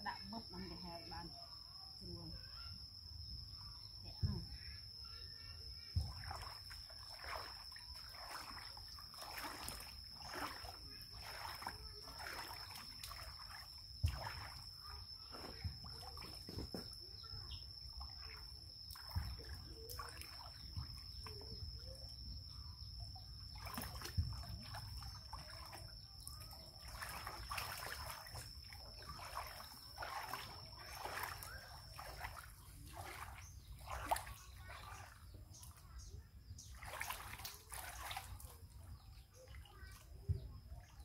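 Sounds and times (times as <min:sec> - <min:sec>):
water splashing in a plastic tub: 0:03.5 - 0:41.0.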